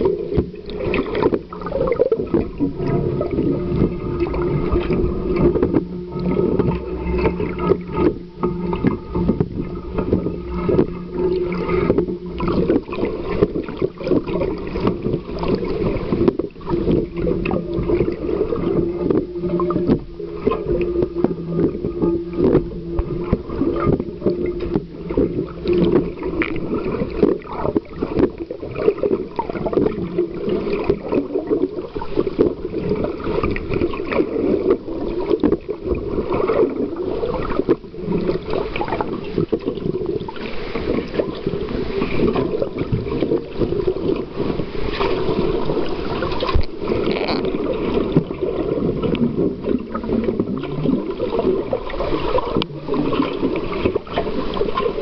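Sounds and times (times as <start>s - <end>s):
bubbling: 0.0s - 55.0s
underwater churn of rough sea: 0.0s - 55.0s.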